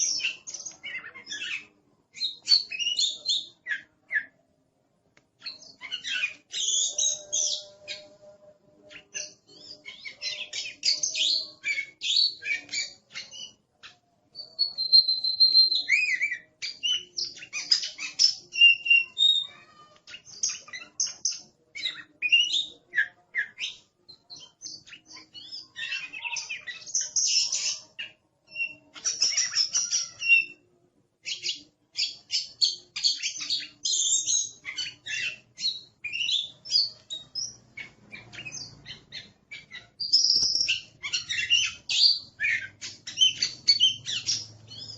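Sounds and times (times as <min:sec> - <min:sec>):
bird singing varied song: 0:00.0 - 0:04.6, 0:05.2 - 0:44.9.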